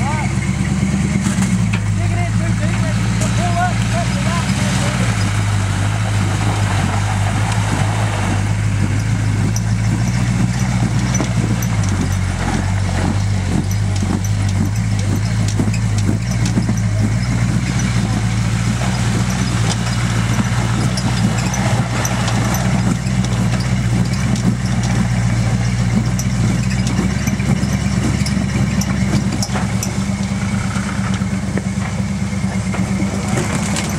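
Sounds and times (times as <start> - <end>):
engine on rev limiter: 0.0 - 33.9.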